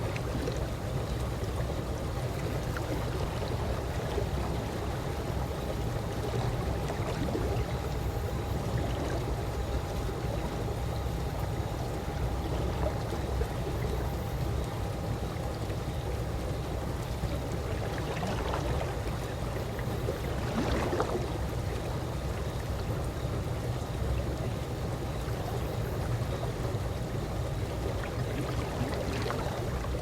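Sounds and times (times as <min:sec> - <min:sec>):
pool water gently washing: 0:00.0 - 0:30.0.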